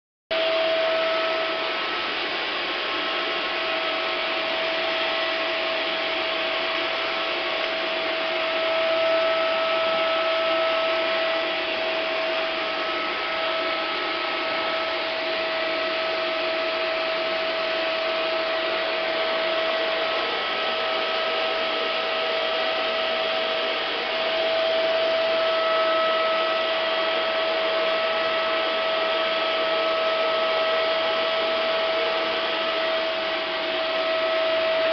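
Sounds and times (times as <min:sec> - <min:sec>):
vacuum cleaner running: 0:00.3 - 0:34.9.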